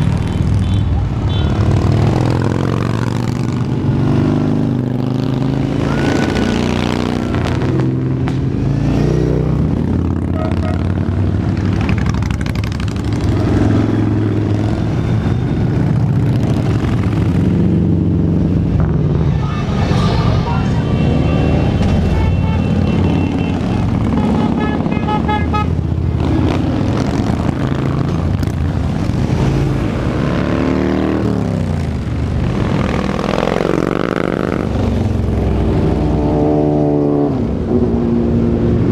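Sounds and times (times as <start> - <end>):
motorcycles riding past: 0.0 - 38.9.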